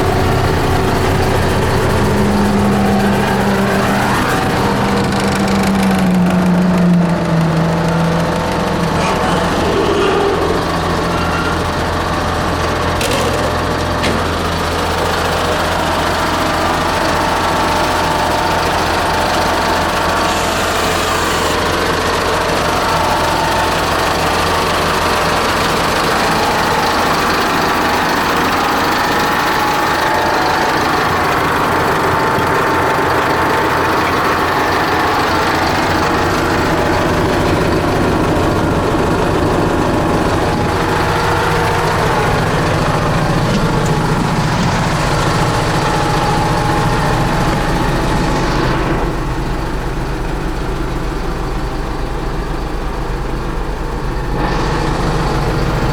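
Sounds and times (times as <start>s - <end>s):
street sweeper engine drone: 0.0s - 55.9s.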